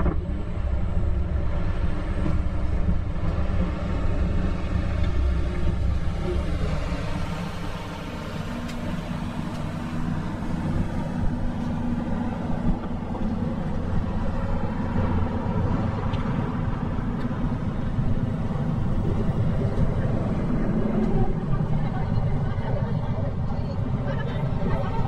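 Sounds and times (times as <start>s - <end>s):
motor traffic rumble: 0.0s - 25.0s.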